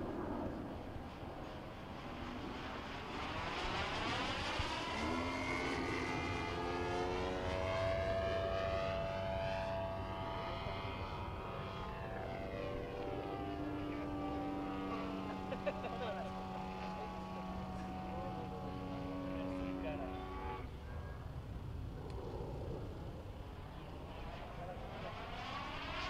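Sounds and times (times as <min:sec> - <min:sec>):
model airplane engine and propeller: 0:00.0 - 0:26.0.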